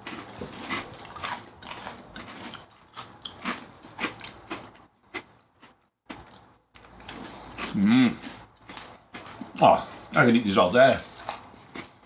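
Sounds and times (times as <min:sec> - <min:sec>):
crunching and chewing cookies: 0:00.0 - 0:12.0.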